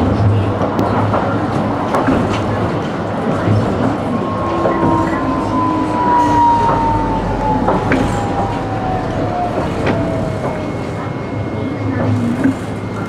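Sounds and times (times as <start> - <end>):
tram cabin rumble: 0.0 - 13.0.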